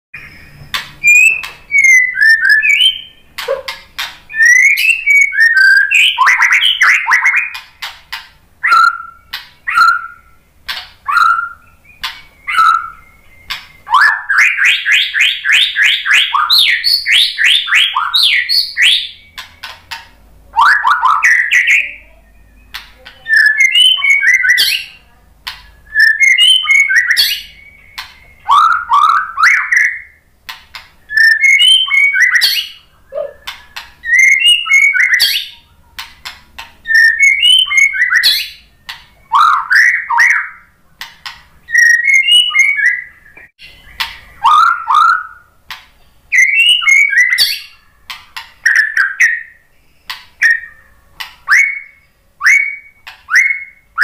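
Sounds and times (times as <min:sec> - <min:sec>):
bird singing whistled notes: 0:00.2 - 0:07.6, 0:08.6 - 0:30.3, 0:31.0 - 0:35.8, 0:36.8 - 0:40.8, 0:41.6 - 0:45.6, 0:46.3 - 0:54.0
sharp bird clicks: 0:00.2 - 0:21.9, 0:22.6 - 0:51.9.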